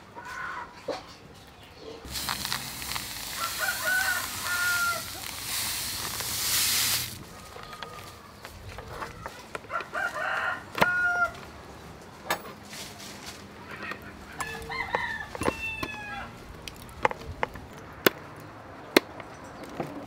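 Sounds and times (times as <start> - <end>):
chickens calling: 0.1 - 12.1, 13.5 - 17.6.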